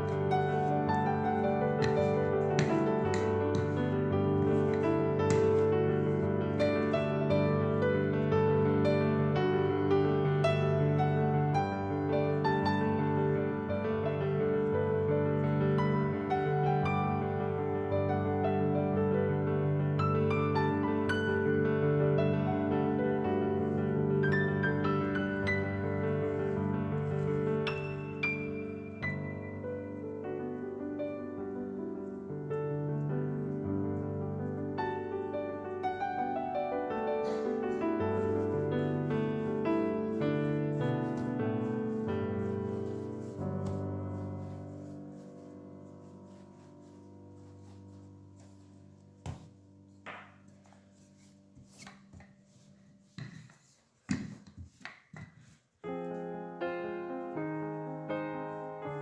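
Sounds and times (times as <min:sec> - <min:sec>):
slow gentle piano piece: 0:00.0 - 0:59.0.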